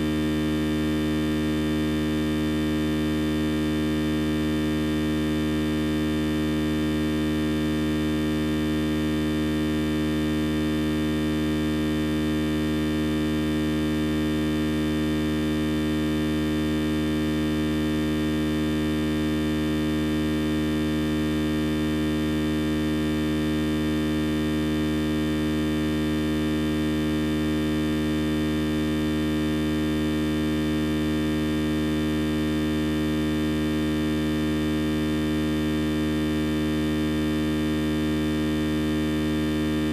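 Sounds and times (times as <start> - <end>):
loud electrical hum: 0.0 - 39.9.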